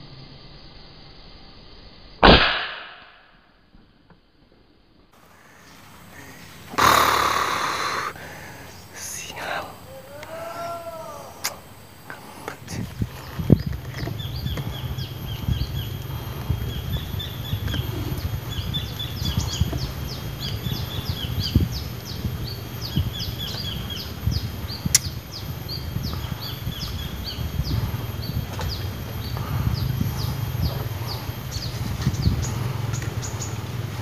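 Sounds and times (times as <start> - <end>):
low rumble: 5.2 - 34.0
small birds chirping: 5.2 - 34.0
bird trilling: 5.3 - 33.8.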